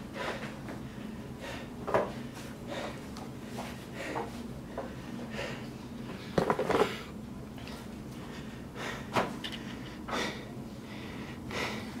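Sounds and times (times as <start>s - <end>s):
person breathing hard: 0.0s - 7.2s, 8.2s - 12.0s.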